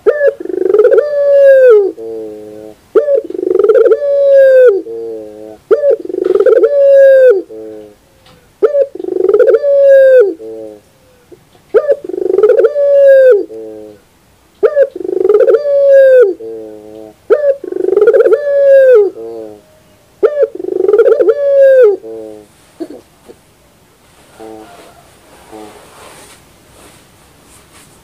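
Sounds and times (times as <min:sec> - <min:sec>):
dove cooing: 0:00.0 - 0:23.4, 0:24.2 - 0:26.1.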